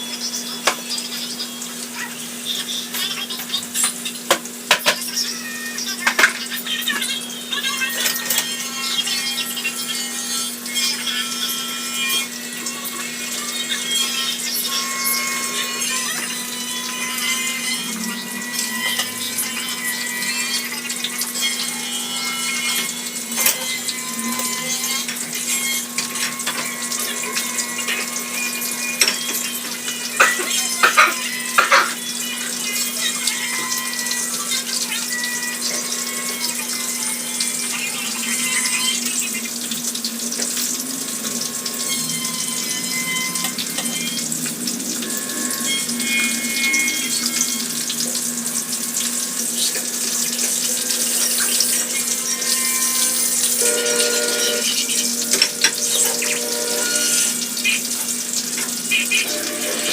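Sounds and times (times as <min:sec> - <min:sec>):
water running from kitchen tap: 0:00.0 - 0:59.9.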